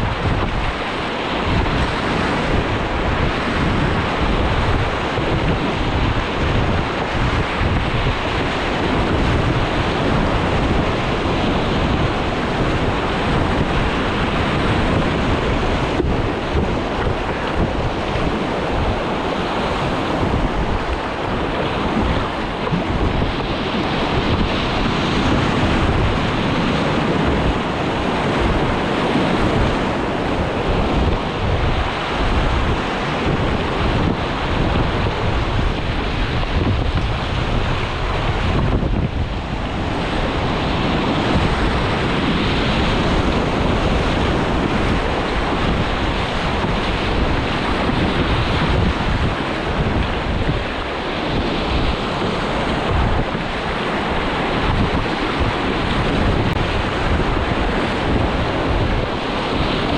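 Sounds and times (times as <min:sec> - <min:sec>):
rushing whitewater: 0:00.0 - 0:59.9
wind noise on microphone: 0:00.0 - 0:59.9.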